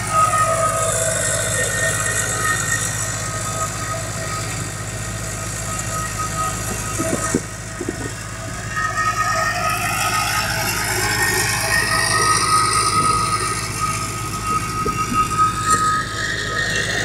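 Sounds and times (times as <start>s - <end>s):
welding machine hum and whine: 0.0s - 17.0s.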